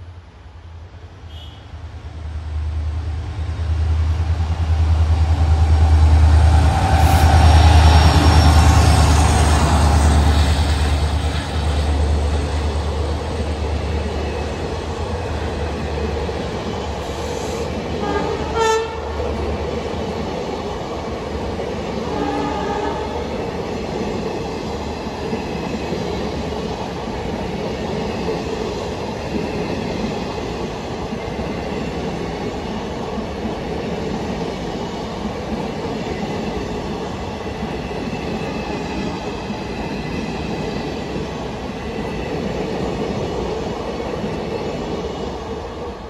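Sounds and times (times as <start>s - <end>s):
train wheels rumbling on rails: 1.3s - 46.0s.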